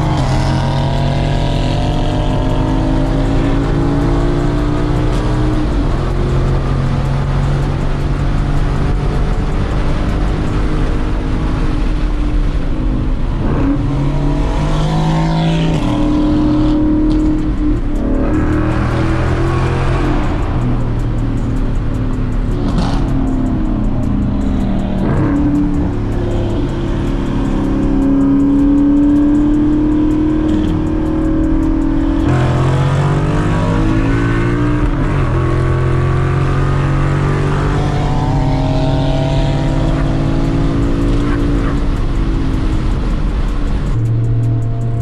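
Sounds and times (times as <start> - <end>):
car engine accelerating hard: 0.0 - 45.0.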